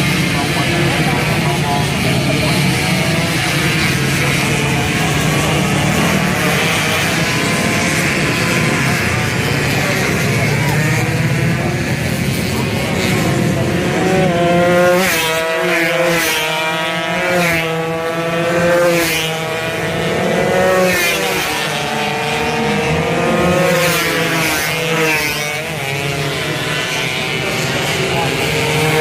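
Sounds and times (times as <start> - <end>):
racing motorcycles revving: 0.0 - 29.0.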